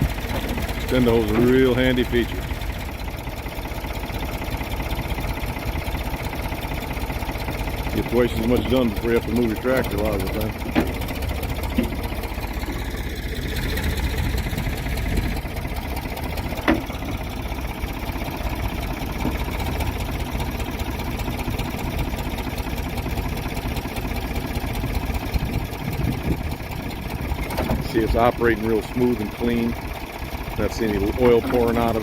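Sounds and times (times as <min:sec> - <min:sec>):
backhoe diesel engine running: 0:00.0 - 0:32.0.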